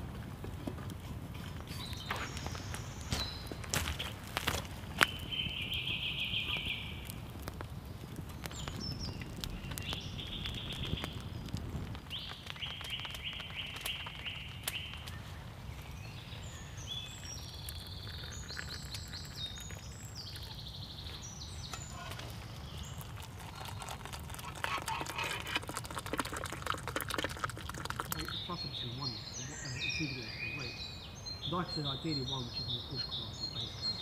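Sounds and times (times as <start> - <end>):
birds singing: 1.6 - 4.2, 5.0 - 7.2, 7.8 - 25.7, 28.0 - 34.0.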